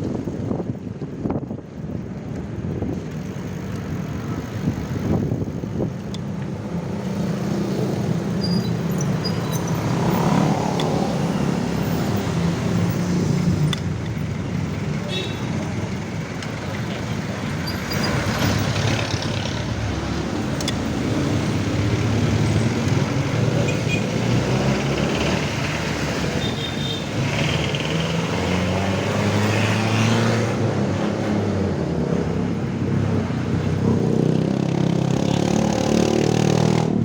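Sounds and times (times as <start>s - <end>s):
vehicle engines passing: 0.0s - 37.0s.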